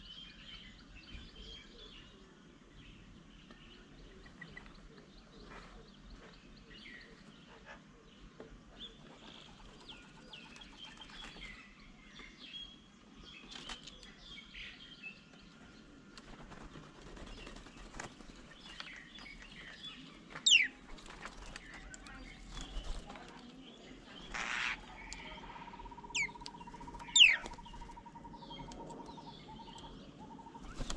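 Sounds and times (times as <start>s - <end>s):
wild birds chirping: 0.0s - 30.9s.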